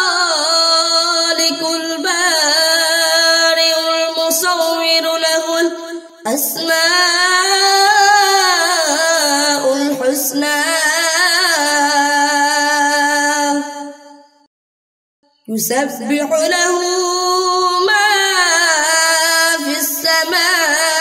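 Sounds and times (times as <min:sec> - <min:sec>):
boy reciting melodically: 0:00.0 - 0:14.0, 0:15.5 - 0:21.0.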